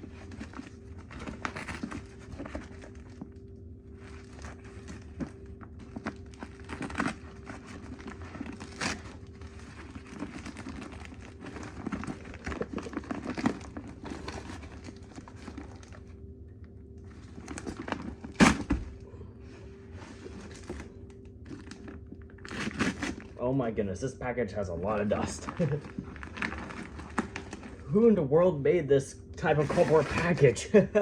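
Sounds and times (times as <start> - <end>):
cardboard tearing and crinkling: 0.0 - 16.1, 17.0 - 19.0, 19.6 - 23.4, 24.9 - 27.9, 29.4 - 30.8.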